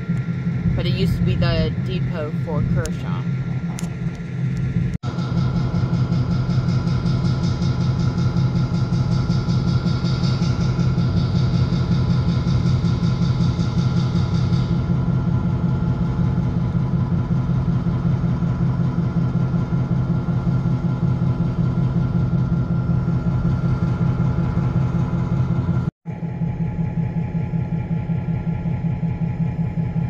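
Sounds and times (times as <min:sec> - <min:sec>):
engine idling: 0:00.0 - 0:30.0
rapid high-pitched pulsing: 0:00.0 - 0:30.0.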